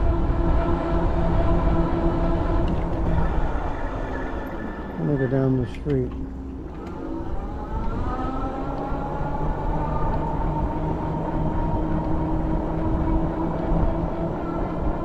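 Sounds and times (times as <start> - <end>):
electric bike motor whining: 0.0 - 15.0
low rumble: 0.0 - 15.0.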